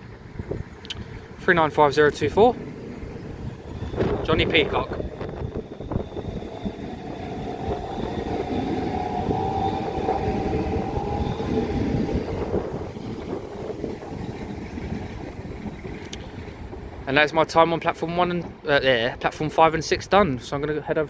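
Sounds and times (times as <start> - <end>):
electric train whine: 0.0 - 18.6
train wheels rumbling on rail: 0.0 - 21.0.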